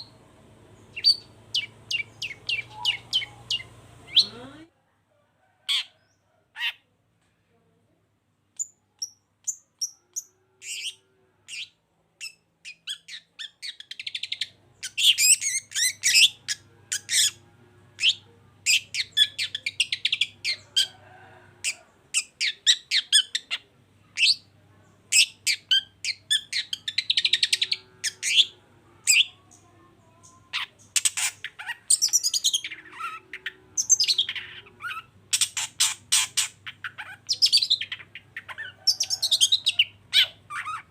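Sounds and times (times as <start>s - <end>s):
bird chirping and chattering: 0.8s - 4.5s, 8.6s - 17.4s, 18.0s - 21.0s, 21.6s - 40.9s.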